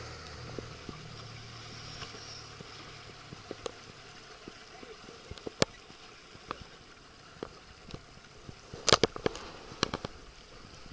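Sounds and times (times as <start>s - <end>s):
low wash of water: 0.0s - 10.9s
waves slapping boat hull: 0.0s - 10.9s.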